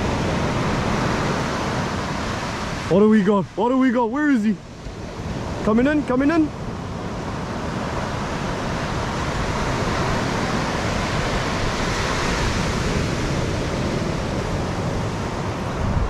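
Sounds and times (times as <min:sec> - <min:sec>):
surf washing on shore: 0:00.0 - 0:16.0
wind rumbling on microphone: 0:00.0 - 0:16.0.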